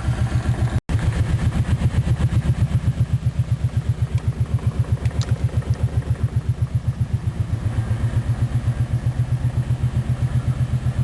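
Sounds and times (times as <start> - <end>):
atv engine idling: 0.0 - 11.0
engine clicking: 0.0 - 11.0.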